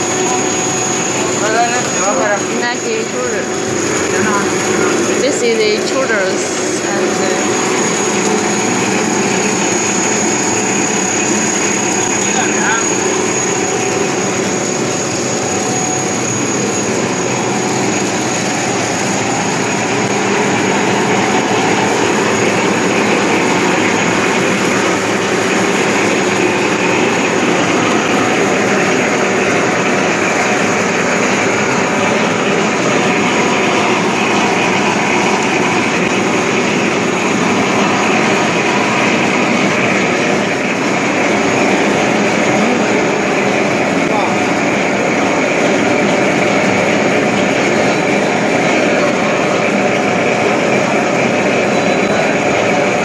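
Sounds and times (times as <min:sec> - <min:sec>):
factory machinery running: 0:00.0 - 0:53.0
thin high whine: 0:00.0 - 0:53.0.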